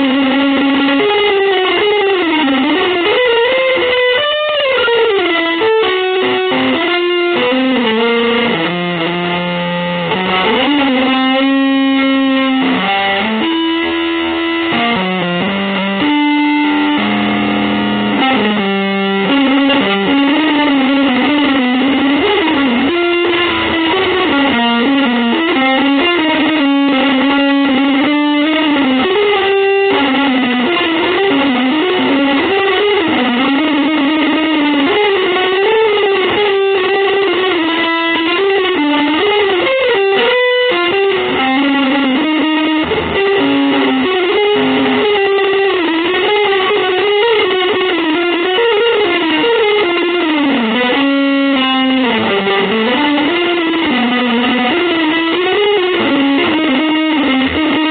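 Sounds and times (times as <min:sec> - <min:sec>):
electric guitar playing: 0:00.0 - 0:57.9.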